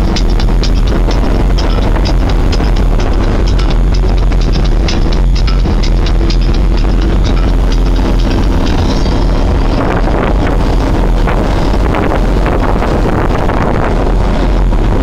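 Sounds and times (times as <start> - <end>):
road and engine noise: 0.0 - 15.0
wind buffeting microphone: 0.0 - 15.0.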